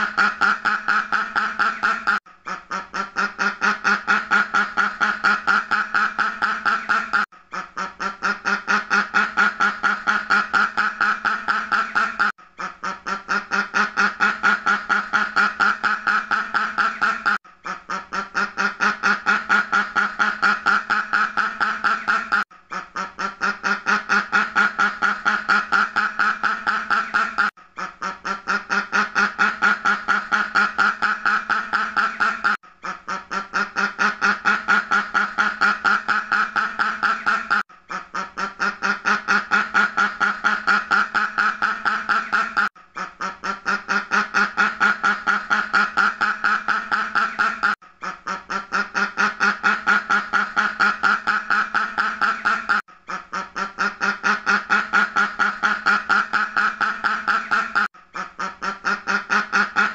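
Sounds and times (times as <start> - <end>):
duck quacking: 0.0 - 59.9.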